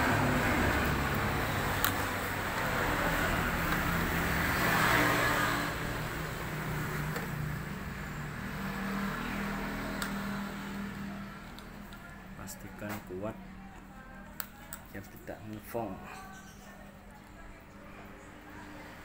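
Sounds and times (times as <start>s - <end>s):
vehicle engine and traffic: 0.0s - 19.0s.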